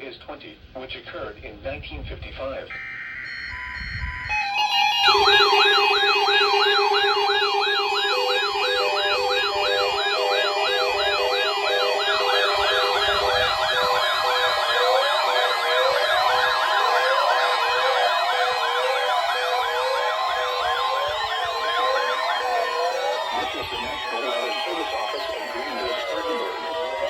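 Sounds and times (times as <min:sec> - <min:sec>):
electronic siren wails: 0:02.7 - 0:27.0
steady higher tone: 0:02.7 - 0:27.0.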